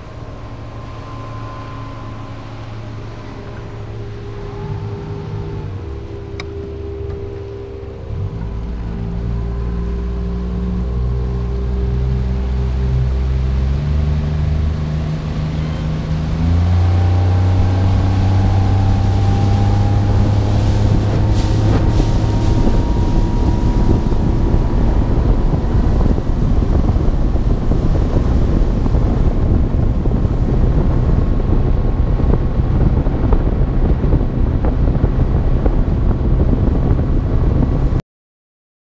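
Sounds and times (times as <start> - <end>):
outboard motor running: 0.0 - 38.0
water rushing past hull: 0.0 - 38.0
wind buffeting microphone: 0.0 - 38.0.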